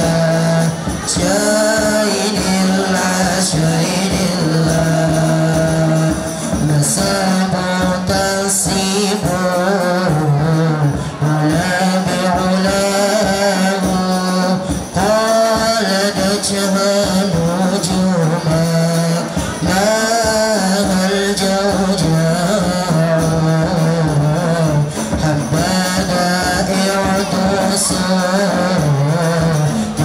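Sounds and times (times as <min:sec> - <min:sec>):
frame drums beating: 0:00.0 - 0:30.0
young man singing into microphone: 0:00.0 - 0:30.0.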